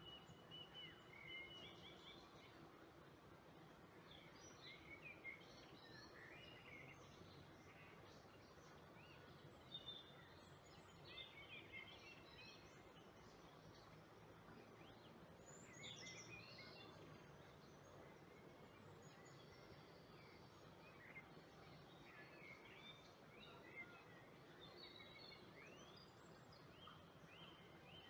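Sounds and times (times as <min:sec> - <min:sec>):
low background hiss: 0:00.0 - 0:28.0.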